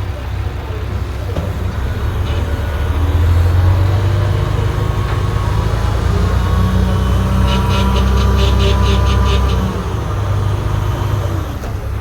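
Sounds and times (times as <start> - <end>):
heavy machinery diesel engine droning: 0.0 - 12.0.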